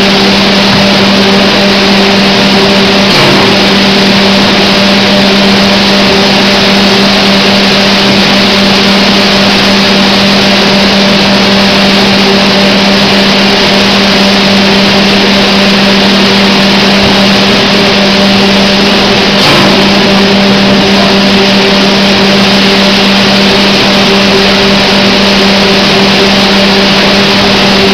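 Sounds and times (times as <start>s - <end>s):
packing machine drone: 0.0s - 27.9s.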